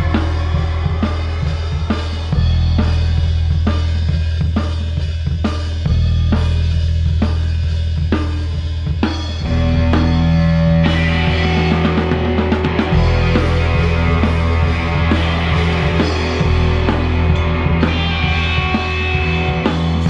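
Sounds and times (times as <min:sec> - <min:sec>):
bass line: 0:00.0 - 0:20.0
drum kit: 0:00.0 - 0:20.0
rock band playing live: 0:00.0 - 0:20.0.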